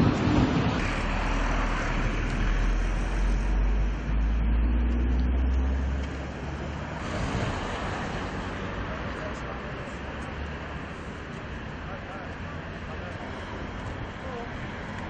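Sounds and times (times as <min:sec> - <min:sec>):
vehicle rumble with low hum: 0:00.0 - 0:15.0.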